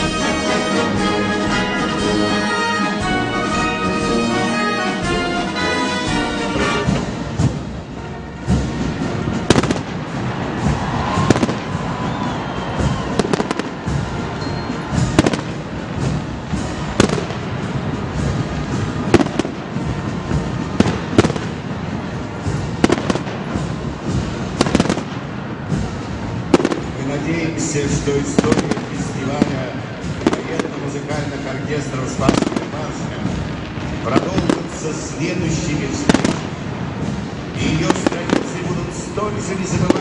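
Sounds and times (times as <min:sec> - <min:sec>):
fireworks crackling: 0:00.0 - 0:40.0
fireworks shells bursting: 0:00.0 - 0:40.0.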